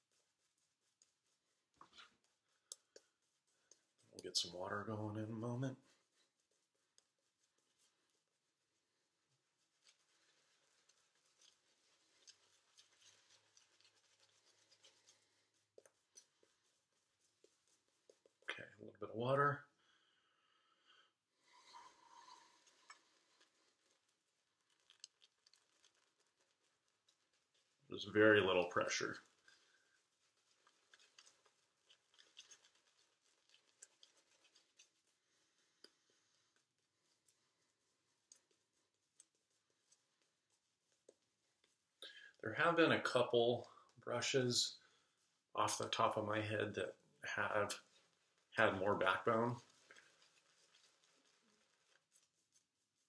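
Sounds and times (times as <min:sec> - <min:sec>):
shaving brush scratching on face: 0:00.0 - 0:18.5, 0:21.5 - 0:42.0, 0:42.8 - 0:53.0.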